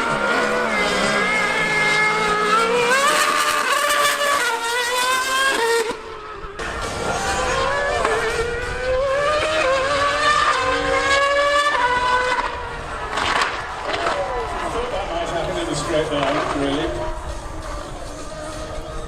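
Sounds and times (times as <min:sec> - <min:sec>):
racing engine accelerating: 0:00.0 - 0:19.0.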